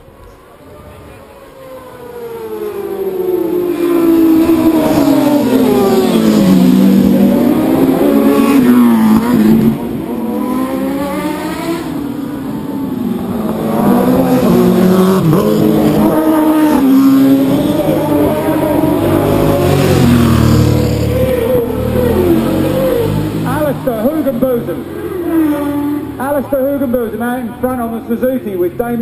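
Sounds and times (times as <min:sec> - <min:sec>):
race motorcycles passing at high revs: 0:00.0 - 0:29.0.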